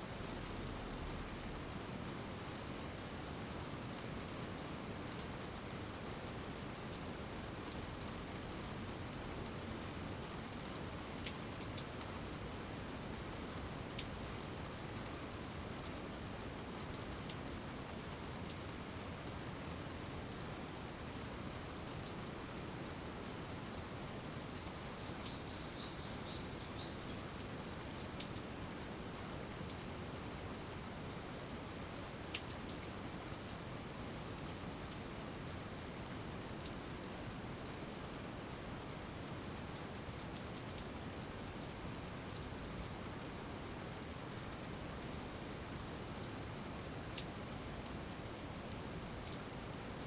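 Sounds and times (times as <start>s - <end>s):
rain falling: 0.1s - 50.0s.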